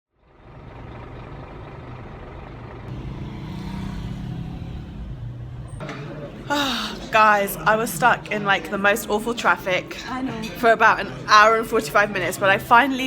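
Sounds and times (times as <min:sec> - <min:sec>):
traffic engines rumbling: 0:00.2 - 0:13.0.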